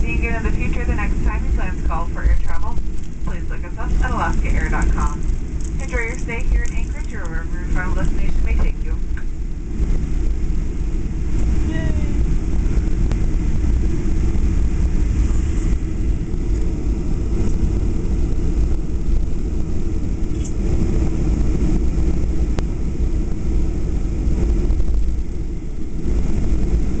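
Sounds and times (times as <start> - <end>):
jet engines idling: 0.0 - 27.0.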